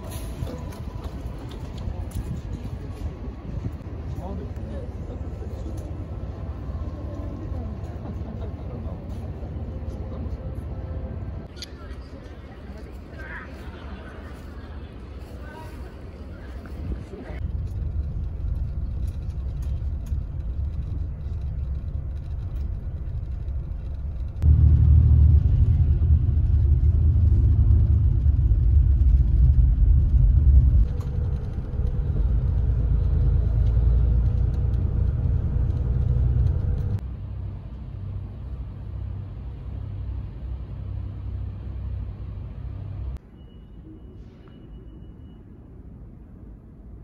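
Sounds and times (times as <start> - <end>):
bus engine and road rumble: 0.0 - 47.0.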